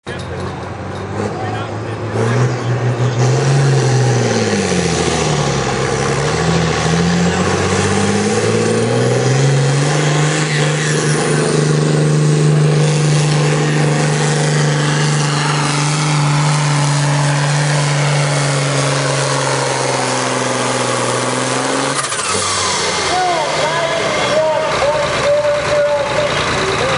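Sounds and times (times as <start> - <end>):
tractor diesel engine working hard: 0.1 - 26.9.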